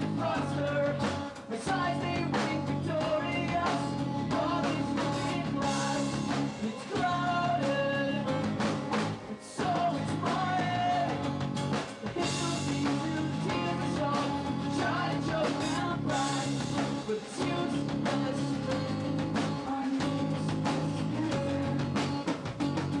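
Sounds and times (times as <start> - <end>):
man singing into a microphone: 0.0 - 8.6, 9.2 - 22.2
strummed acoustic guitar: 0.0 - 23.0.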